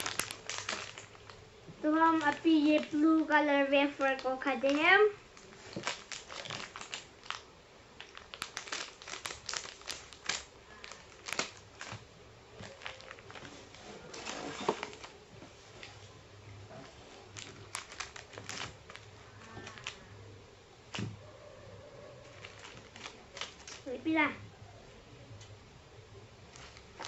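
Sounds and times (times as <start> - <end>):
plastic wrappers crinkling: 0.0 - 21.2, 22.0 - 24.4, 26.4 - 27.0.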